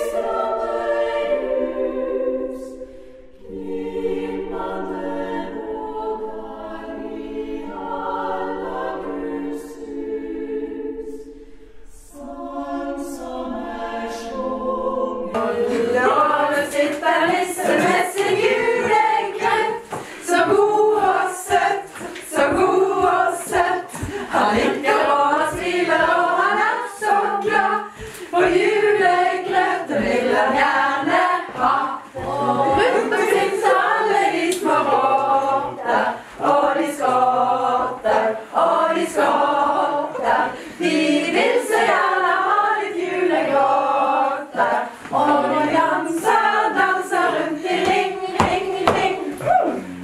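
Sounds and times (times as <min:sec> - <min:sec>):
group singing a carol unaccompanied: 0:00.0 - 0:50.0.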